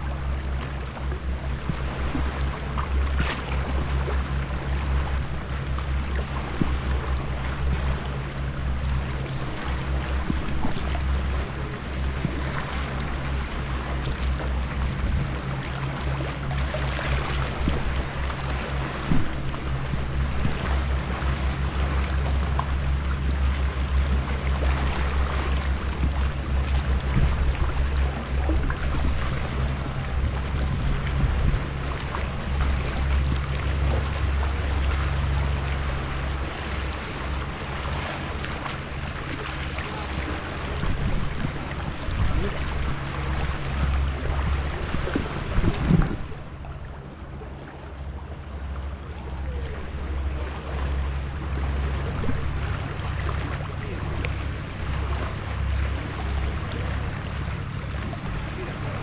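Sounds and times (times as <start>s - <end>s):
sea water lapping and sloshing: 0.0s - 59.0s
steady low rumble: 0.0s - 59.0s.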